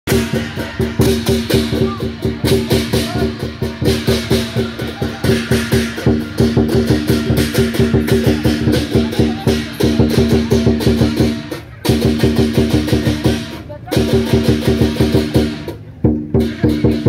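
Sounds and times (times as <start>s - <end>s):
drum beaten fast: 0.0s - 17.0s
cymbals clashing: 0.1s - 17.0s.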